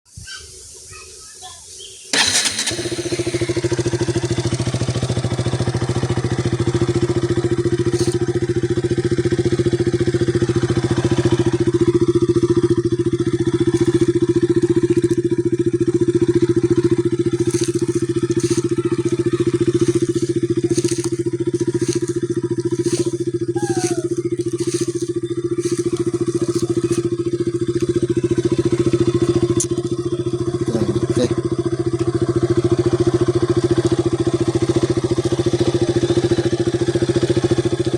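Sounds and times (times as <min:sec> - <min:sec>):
motorcycle engine idling: 0:01.9 - 0:37.9.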